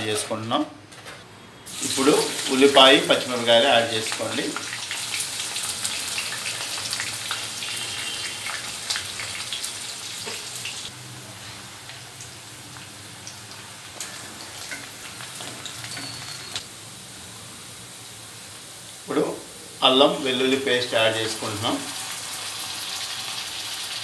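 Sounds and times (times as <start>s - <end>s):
onions sizzling in hot oil: 1.7s - 24.0s.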